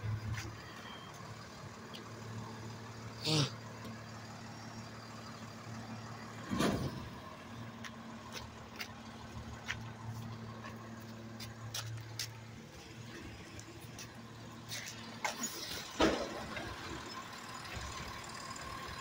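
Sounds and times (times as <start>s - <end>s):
truck diesel engine humming: 0.0s - 19.0s.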